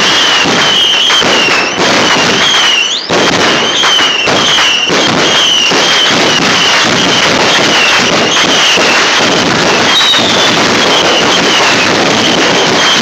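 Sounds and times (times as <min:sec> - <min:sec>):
fireworks crackling: 0:00.0 - 0:13.0
high firework whistles: 0:00.0 - 0:13.0.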